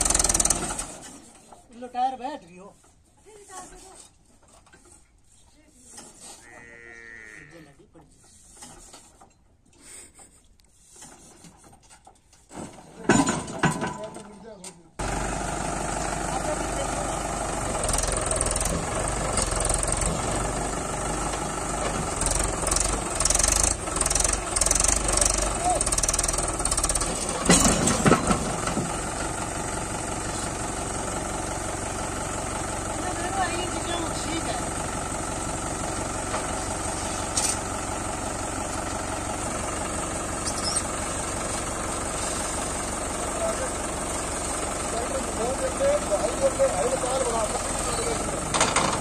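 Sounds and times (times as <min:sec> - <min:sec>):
tractor diesel engine under load: 0:00.0 - 0:05.0, 0:10.8 - 0:49.0.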